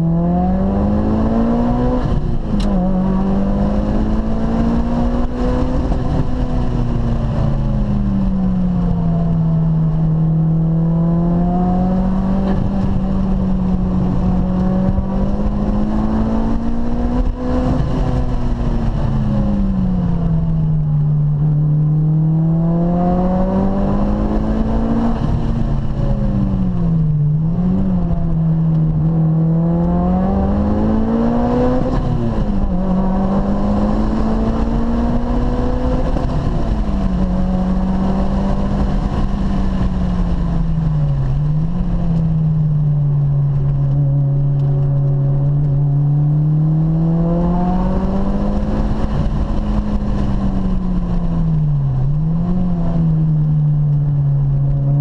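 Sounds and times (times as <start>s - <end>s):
car engine under throttle: 0.0s - 55.0s
road and tyre rumble: 0.0s - 55.0s.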